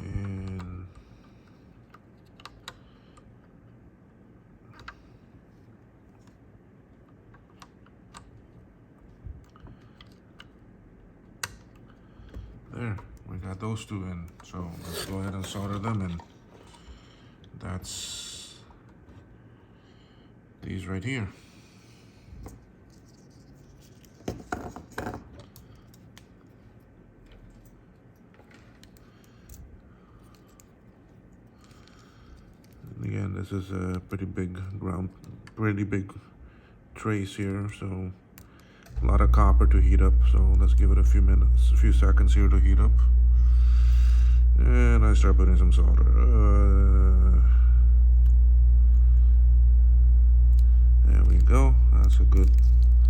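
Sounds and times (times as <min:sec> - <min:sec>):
air conditioner humming: 0:00.0 - 0:53.0.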